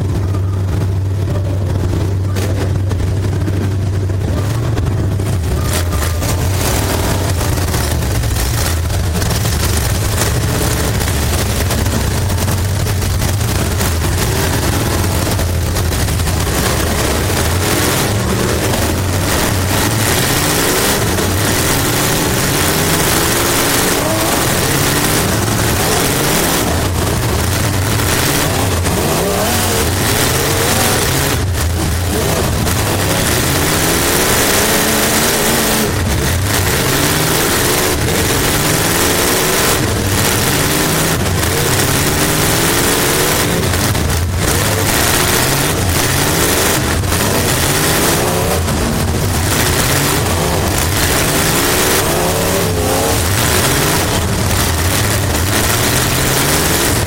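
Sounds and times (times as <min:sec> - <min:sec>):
race car engine revving: 0:00.0 - 0:57.0
steady rushing noise: 0:00.0 - 0:57.0.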